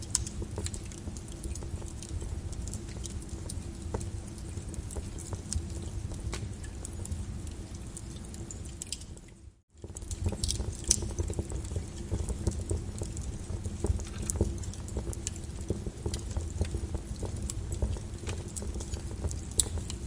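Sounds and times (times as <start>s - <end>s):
lava crackling and popping: 0.0s - 20.0s.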